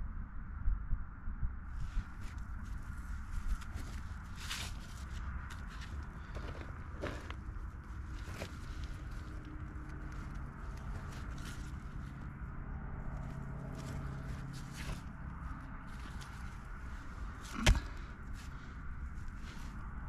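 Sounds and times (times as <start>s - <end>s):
steady low hum: 0.0s - 20.0s
gravel crunching and scraping: 1.7s - 20.0s.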